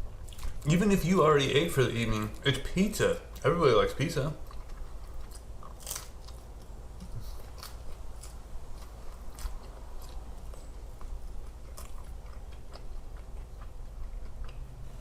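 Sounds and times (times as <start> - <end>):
person chewing pizza: 0.0 - 15.0
steady low hum: 0.0 - 15.0.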